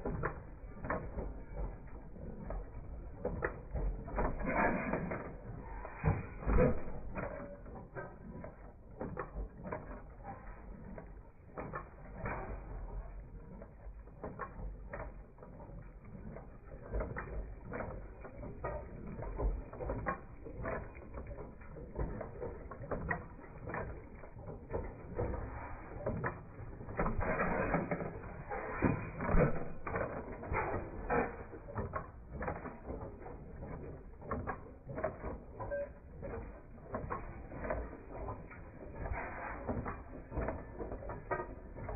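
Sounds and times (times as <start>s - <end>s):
machinery clicking and knocking: 0.0s - 41.9s.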